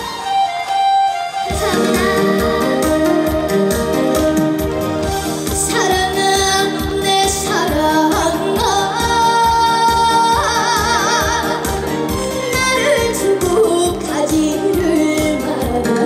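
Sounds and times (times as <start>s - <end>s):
band backing track with beat: 0.0s - 16.0s
woman singing: 1.4s - 4.2s, 5.5s - 16.0s.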